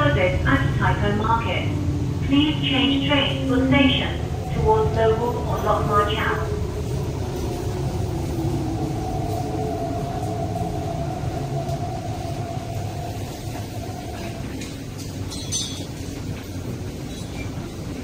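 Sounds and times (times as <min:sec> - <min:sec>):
train low rolling rumble: 0:00.0 - 0:18.0.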